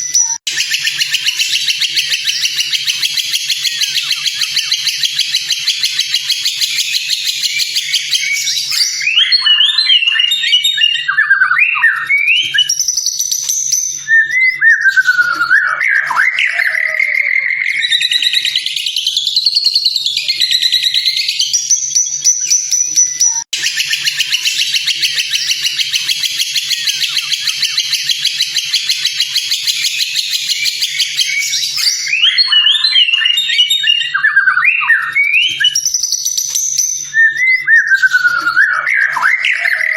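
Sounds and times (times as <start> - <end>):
songbird chattering and whistling: 0.0 - 39.9.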